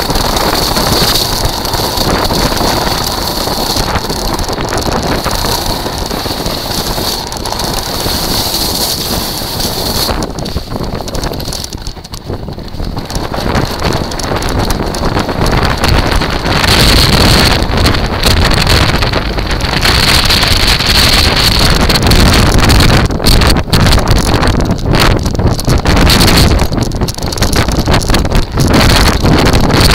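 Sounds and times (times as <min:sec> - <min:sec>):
wheels rolling over shingle: 0:00.0 - 0:29.9
wind buffeting microphone: 0:00.0 - 0:29.9.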